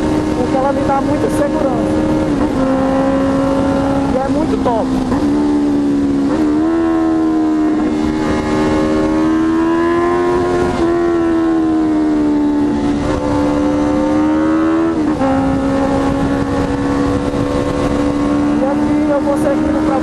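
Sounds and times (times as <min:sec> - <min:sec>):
motorcycle engine under way: 0:00.0 - 0:20.0
wind on microphone: 0:00.0 - 0:20.0.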